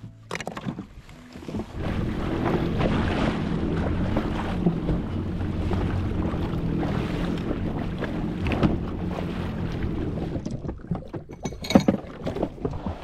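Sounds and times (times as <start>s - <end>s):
sea water moving: 0.8s - 13.0s.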